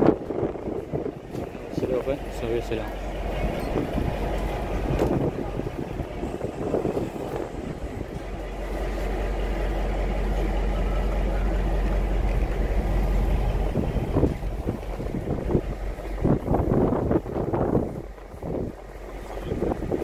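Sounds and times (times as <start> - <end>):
diesel train engines rumbling: 0.0 - 20.0.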